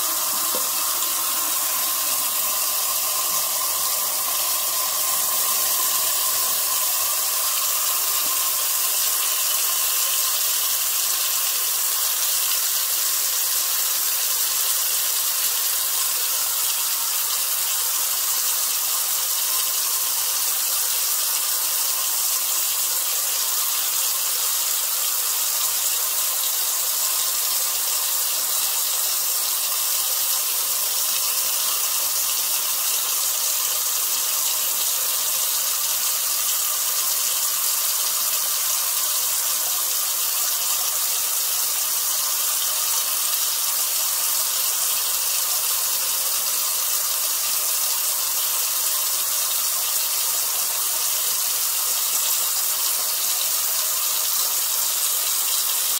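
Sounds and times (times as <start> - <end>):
water pouring into plastic colander: 0.0 - 55.9.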